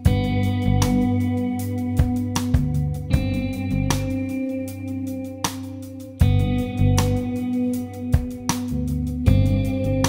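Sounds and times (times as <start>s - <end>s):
instrumental music with sharp hits: 0.0s - 10.0s.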